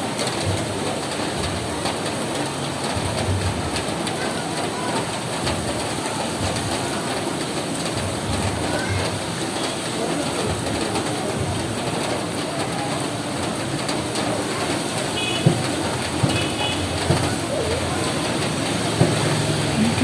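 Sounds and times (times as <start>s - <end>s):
rain on a roof: 0.0s - 20.0s.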